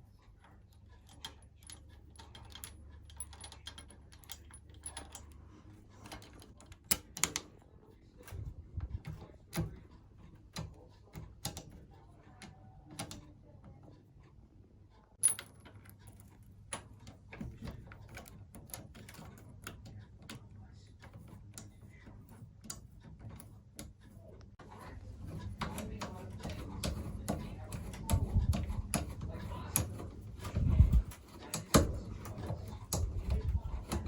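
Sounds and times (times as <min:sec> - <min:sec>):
metal tools clicking and tapping: 0:00.0 - 0:07.6, 0:08.2 - 0:13.3, 0:15.2 - 0:34.0.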